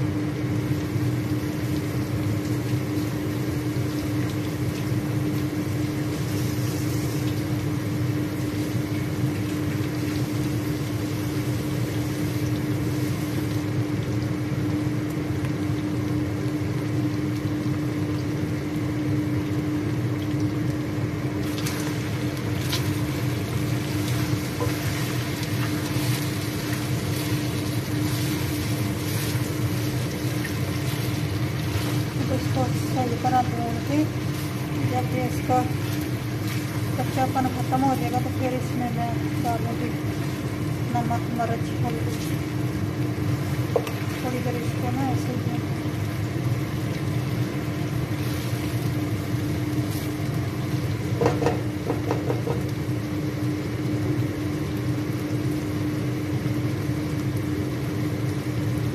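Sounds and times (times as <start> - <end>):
chicken sizzling in hot oil: 0.0 - 58.9
constant low hum: 0.0 - 58.9.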